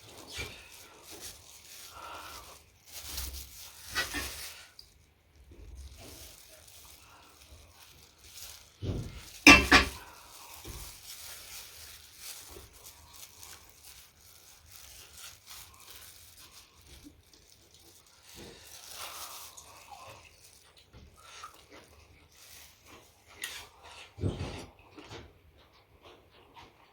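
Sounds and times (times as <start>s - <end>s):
person chewing food: 0.0s - 26.9s.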